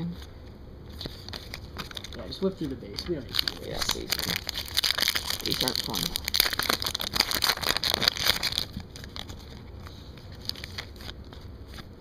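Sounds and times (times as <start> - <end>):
plastic foil wrapper crinkling: 1.2 - 12.0.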